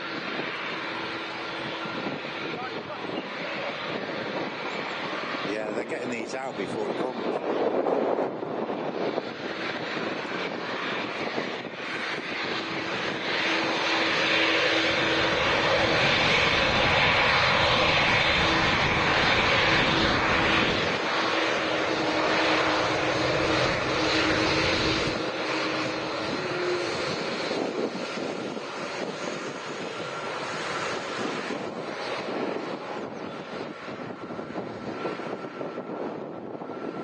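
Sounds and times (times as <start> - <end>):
jet engines at taxi power: 0.0 - 37.0.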